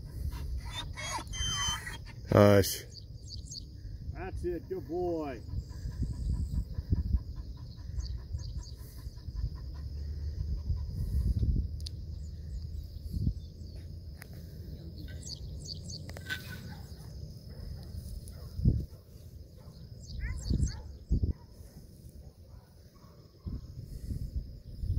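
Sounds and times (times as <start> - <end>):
faint high insect drone: 0.0 - 24.9
small birds chirping: 0.0 - 24.9
wind buffeting microphone: 3.0 - 24.9.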